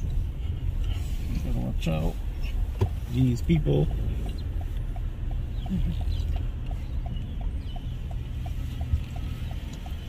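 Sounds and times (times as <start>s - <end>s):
car engine and road rumble: 0.0s - 10.0s
turn signal ticking: 0.0s - 10.0s.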